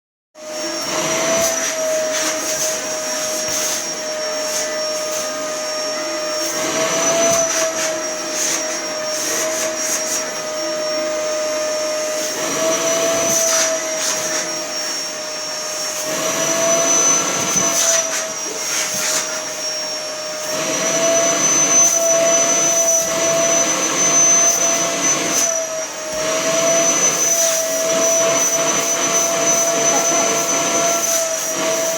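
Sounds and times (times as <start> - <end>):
vacuum cleaner running: 0.4 - 31.9.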